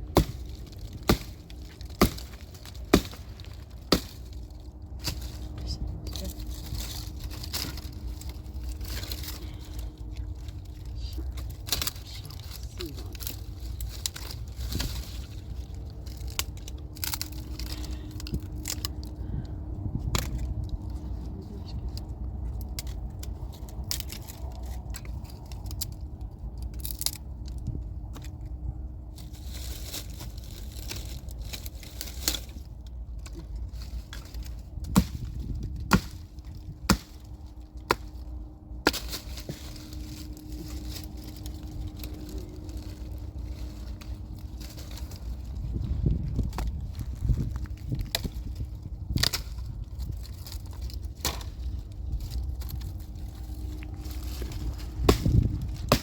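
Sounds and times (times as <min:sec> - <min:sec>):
dry wood snapping and cracking: 0:00.0 - 0:56.0
low steady rumble: 0:00.0 - 0:56.0.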